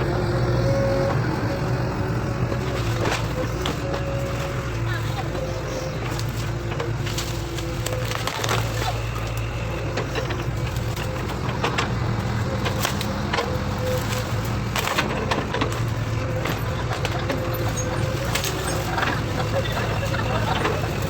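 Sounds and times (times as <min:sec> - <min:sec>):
diesel engine running: 0:00.0 - 0:21.0
sharp cracks and knocks: 0:02.6 - 0:19.6.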